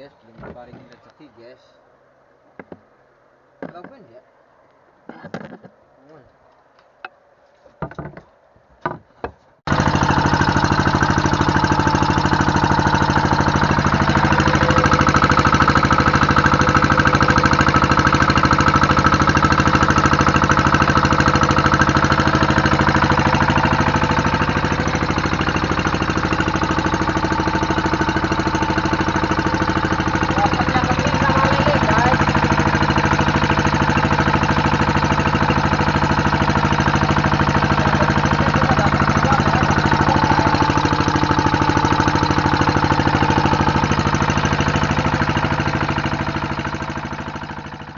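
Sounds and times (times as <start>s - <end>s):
boat engine knocking: 2.6s - 2.9s, 9.7s - 47.9s.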